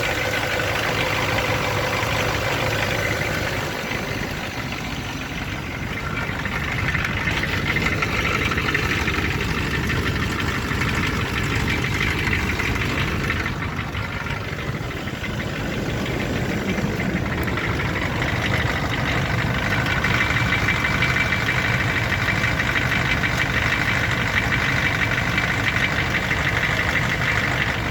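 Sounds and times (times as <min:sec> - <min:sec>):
car engine knocking: 0:00.0 - 0:27.9.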